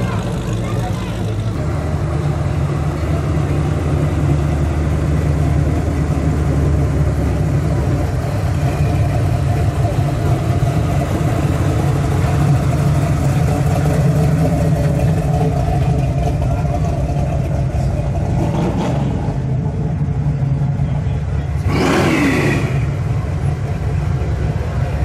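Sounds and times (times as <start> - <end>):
car exhaust rumbling: 0.0 - 25.0.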